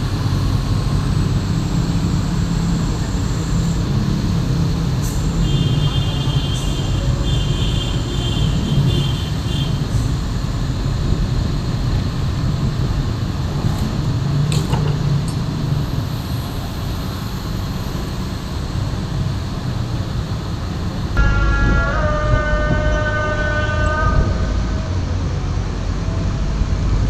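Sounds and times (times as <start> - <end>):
diesel engines rumbling: 0.0 - 27.0.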